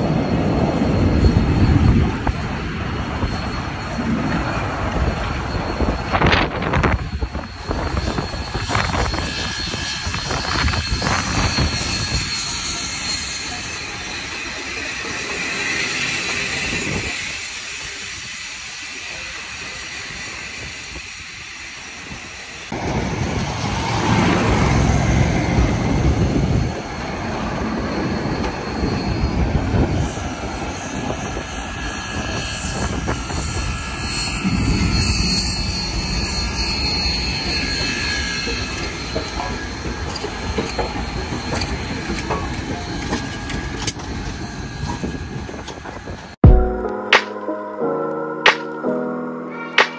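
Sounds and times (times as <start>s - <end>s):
locomotive wheels on rail: 0.0s - 46.4s
steam hissing: 0.4s - 46.3s.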